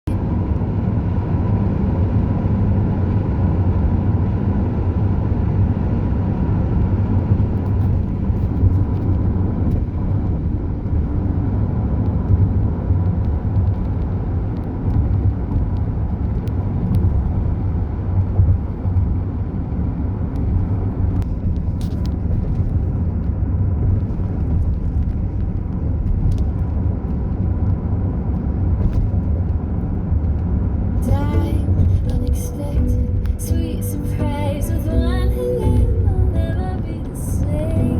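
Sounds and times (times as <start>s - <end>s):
car tyre and engine rumble: 0.0s - 37.9s.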